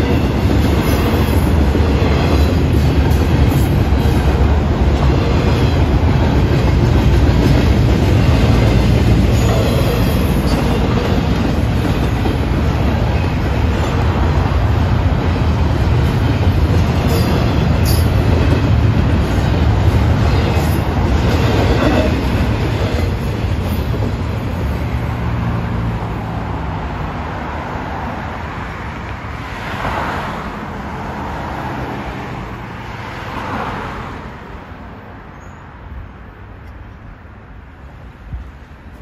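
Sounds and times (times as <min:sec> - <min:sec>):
freight train wheels rumbling: 0:00.0 - 0:39.0
road vehicles passing by: 0:00.0 - 0:39.0.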